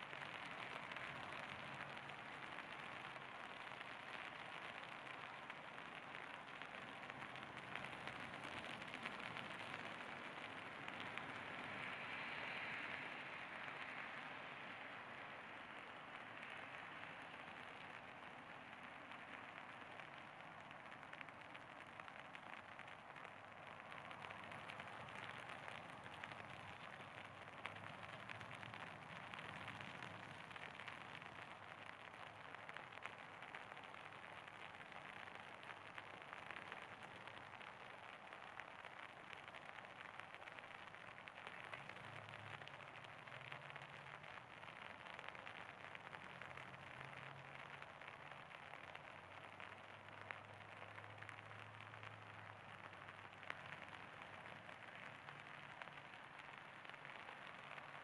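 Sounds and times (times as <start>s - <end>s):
light rain pattering: 0.0s - 58.0s.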